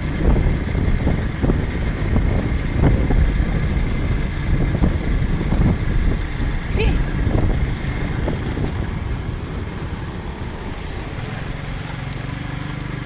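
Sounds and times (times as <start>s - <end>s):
motorcycle running: 0.0s - 13.0s
road noise: 0.0s - 13.0s
wind buffeting microphone: 0.0s - 13.0s.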